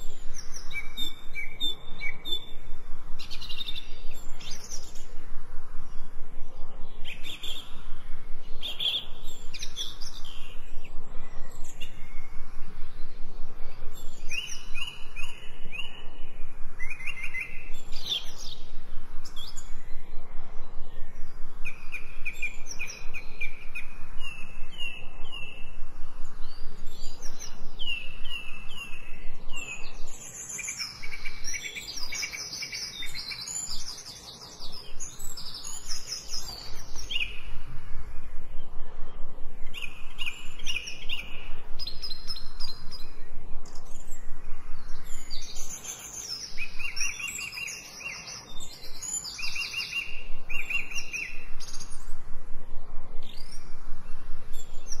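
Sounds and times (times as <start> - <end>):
songbirds singing and trilling: 0.0 - 55.0.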